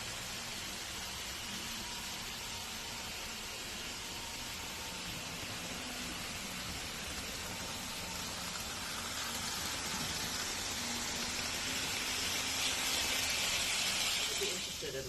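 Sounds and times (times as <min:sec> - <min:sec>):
model trains whirring on track: 0:00.0 - 0:15.0.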